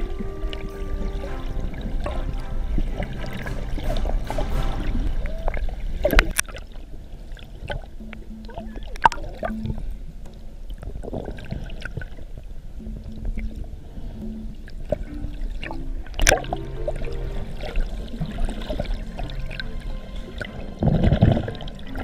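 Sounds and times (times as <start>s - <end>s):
low hums: 0.0s - 22.0s
underwater swishing and bubbles: 0.0s - 22.0s.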